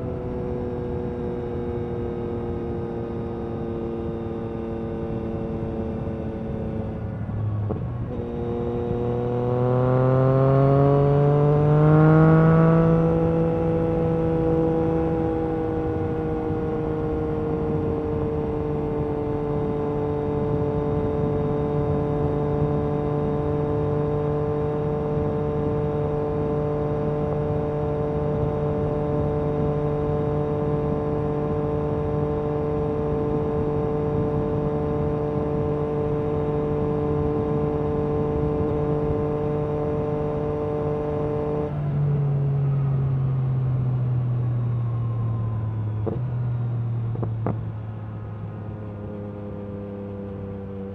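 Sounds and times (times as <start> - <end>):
motorcycle engine at steady revs: 0.0 - 50.9.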